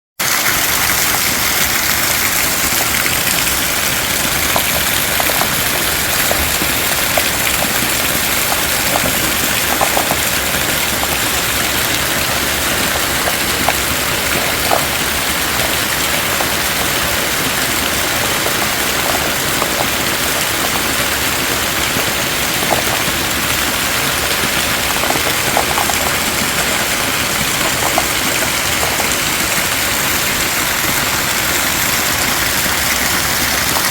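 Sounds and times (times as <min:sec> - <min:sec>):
drips and splashes: 0:00.2 - 0:33.9
heavy rain pouring: 0:00.2 - 0:33.9.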